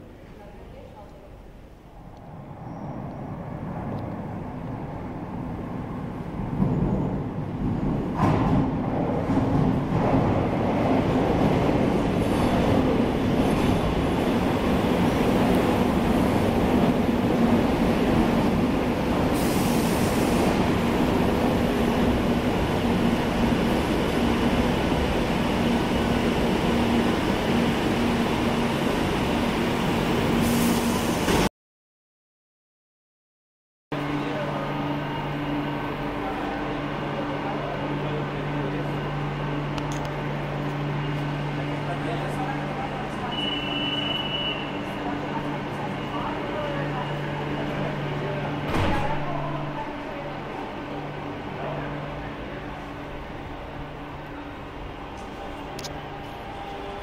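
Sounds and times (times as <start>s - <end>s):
metro train rumbling: 0.0s - 31.5s, 33.9s - 57.0s.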